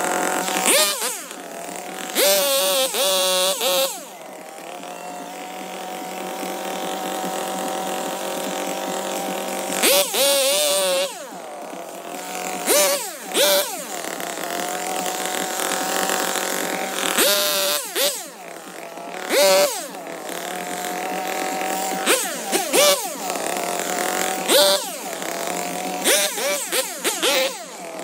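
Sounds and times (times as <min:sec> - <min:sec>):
chainsaw idling and revving: 0:00.0 - 0:28.0.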